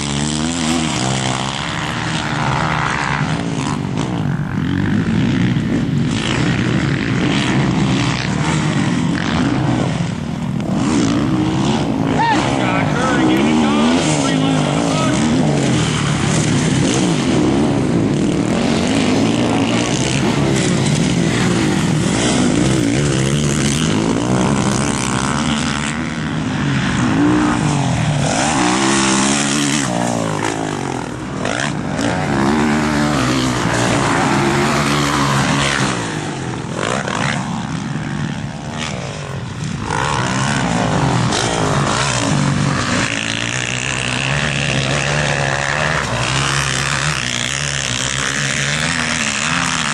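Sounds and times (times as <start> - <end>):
motocross bikes revving past: 0.0 - 49.9.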